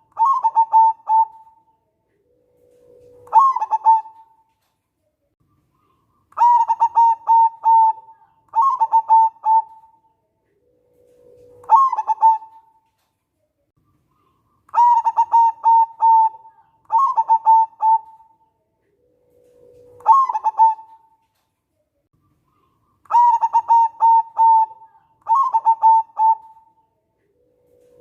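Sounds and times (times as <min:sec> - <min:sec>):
dove cooing: 0:00.0 - 0:04.5, 0:05.8 - 0:12.8, 0:14.2 - 0:21.3, 0:22.5 - 0:28.0.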